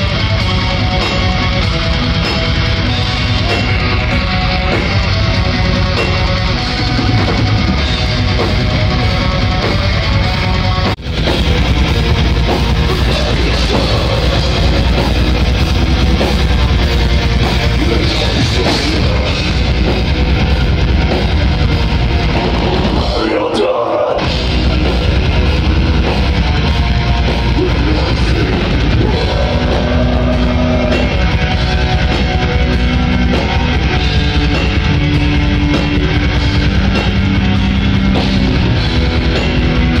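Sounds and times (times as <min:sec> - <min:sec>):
heavy metal band playing: 0:00.0 - 0:40.0.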